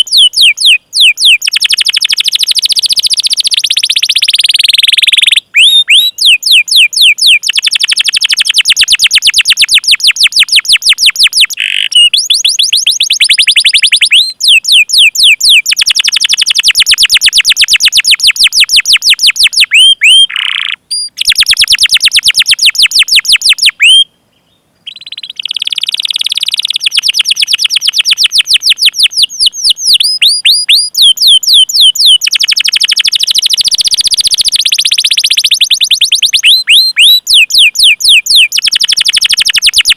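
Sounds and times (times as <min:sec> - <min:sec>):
canary singing chirping trills: 0:00.0 - 0:39.9.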